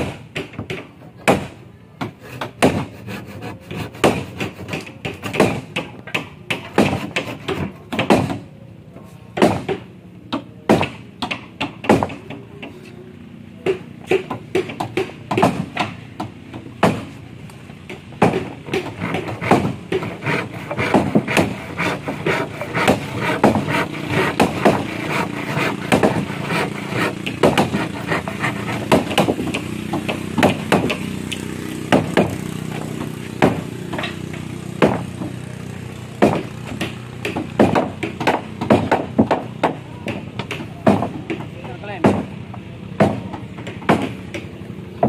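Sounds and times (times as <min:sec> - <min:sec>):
hammer strikes on wood: 0:00.0 - 0:08.5, 0:09.4 - 0:12.7, 0:13.6 - 0:17.1, 0:17.9 - 0:45.0
low engine hum: 0:08.4 - 0:45.0.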